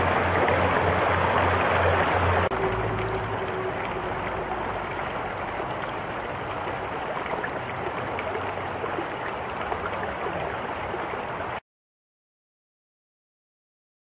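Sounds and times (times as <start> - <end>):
creek water running over stones: 0.0 - 11.6.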